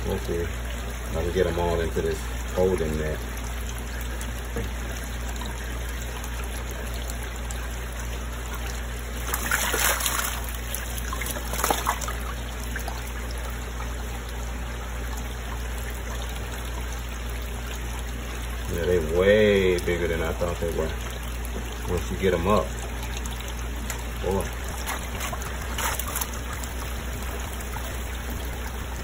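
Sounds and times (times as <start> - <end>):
steady low hum: 0.0 - 29.0
water splashes: 0.0 - 29.0
water trickling: 0.0 - 29.0.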